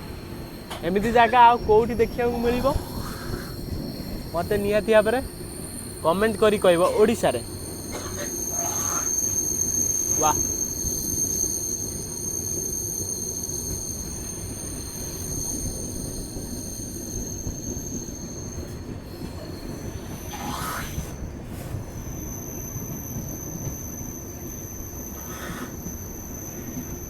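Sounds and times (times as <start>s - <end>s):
train wheel squeal: 0.0s - 27.0s
train wheels rumbling on rails: 0.0s - 27.0s.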